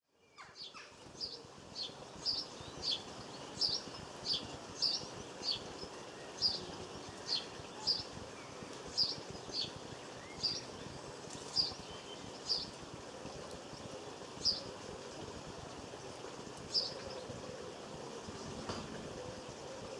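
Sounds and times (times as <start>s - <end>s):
low background noise: 0.0s - 19.9s
small songbird chirping: 0.1s - 18.4s.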